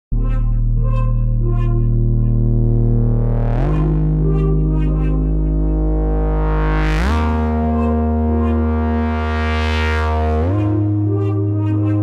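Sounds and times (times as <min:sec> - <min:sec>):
ambient drone and chords: 0:00.1 - 0:12.0.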